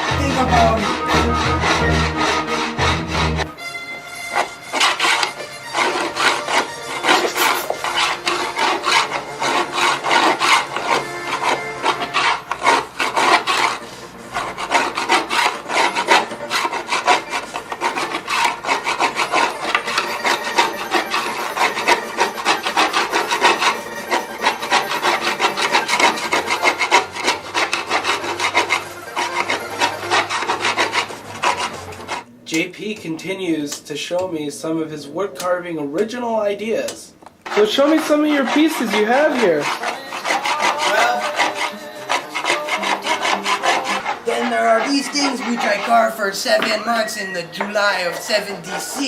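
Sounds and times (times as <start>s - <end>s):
wood being carved and scraped: 0.0s - 32.3s, 37.3s - 49.0s.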